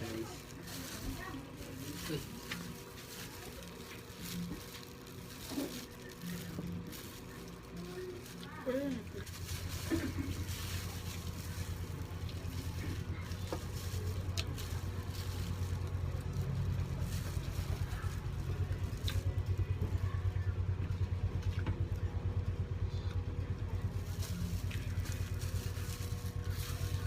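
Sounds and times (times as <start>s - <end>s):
motor with pulsing rumble: 0.0s - 27.0s.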